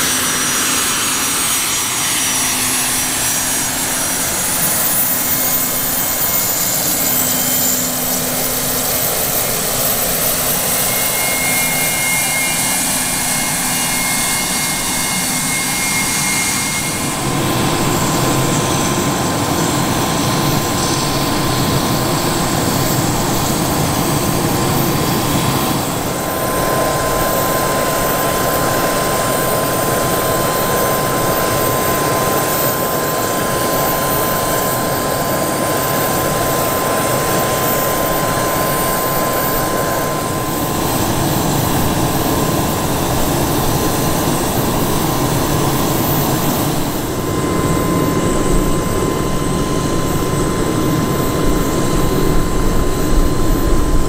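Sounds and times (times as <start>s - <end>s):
jet engines rushing and whining: 0.0s - 54.0s.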